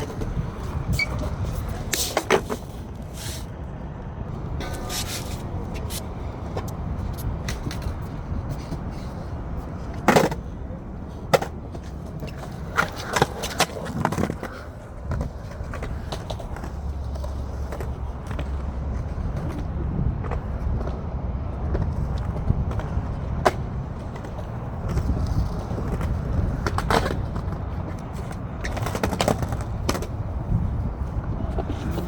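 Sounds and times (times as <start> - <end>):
skateboard clacks: 0.0 - 3.4, 4.3 - 32.0
skateboard wheels rolling on concrete: 0.0 - 32.0.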